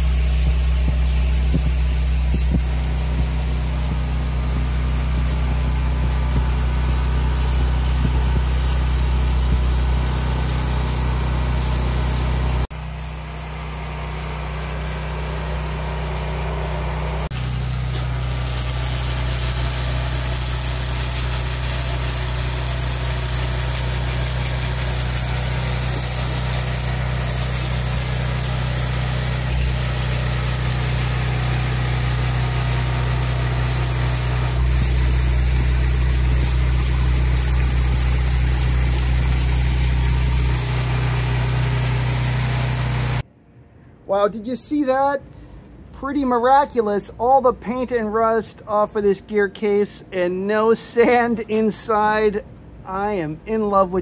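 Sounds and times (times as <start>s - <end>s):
laser cleaning machine hum and hiss: 0.0s - 43.2s.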